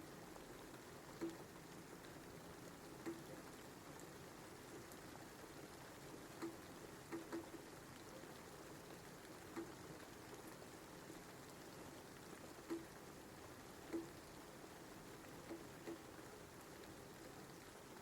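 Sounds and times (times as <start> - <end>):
faint steady rain: 0.0 - 18.0.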